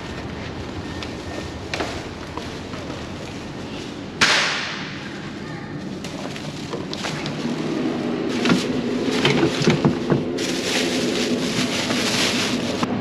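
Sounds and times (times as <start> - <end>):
plastic bags rustling: 0.0 - 13.0
refrigerator low hum: 0.0 - 13.0.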